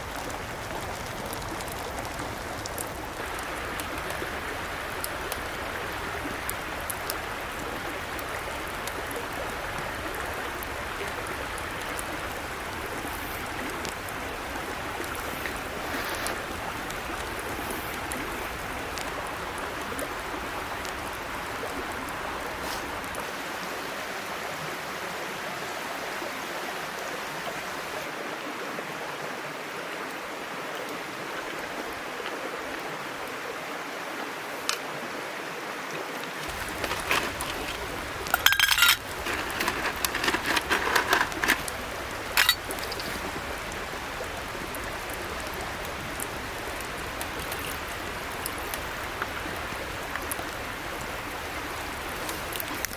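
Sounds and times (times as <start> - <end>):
stream babbling: 0.0 - 52.9.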